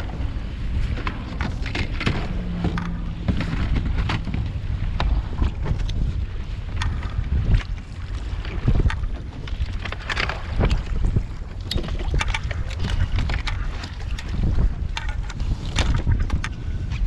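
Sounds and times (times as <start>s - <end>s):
water splashing against kayak hull: 0.0s - 17.0s
wind buffeting microphone: 0.0s - 17.0s.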